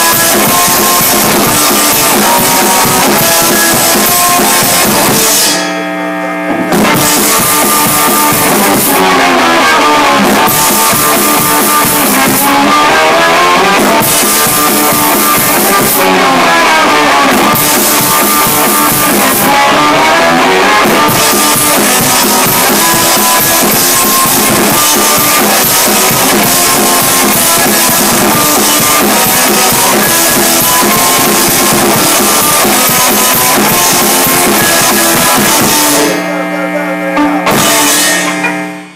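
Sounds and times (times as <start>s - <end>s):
rock band jamming: 0.0s - 38.9s.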